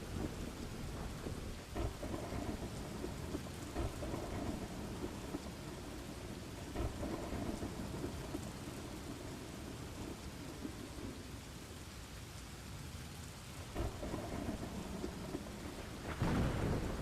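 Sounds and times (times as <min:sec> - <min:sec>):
low rolling thunder: 0:00.0 - 0:11.8, 0:13.6 - 0:17.0
steady rain: 0:00.0 - 0:17.0.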